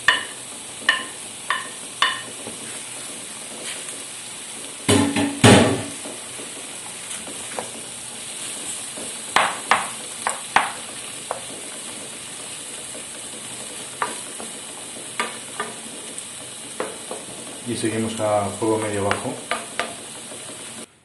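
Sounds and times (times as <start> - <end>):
wooden spoon knocking a pan: 0.0 - 3.0, 4.9 - 20.9
vegetables sizzling in a pan: 0.0 - 21.0.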